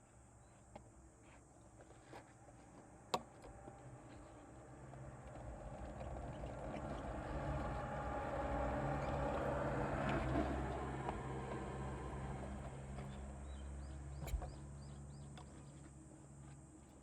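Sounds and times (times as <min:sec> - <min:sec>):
vehicle engine hum: 0:00.2 - 0:17.0.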